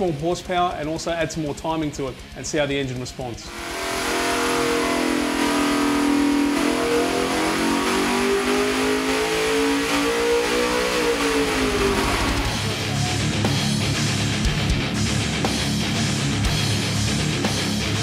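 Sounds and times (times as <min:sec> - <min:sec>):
engine revving at full throttle: 0:03.5 - 0:18.0.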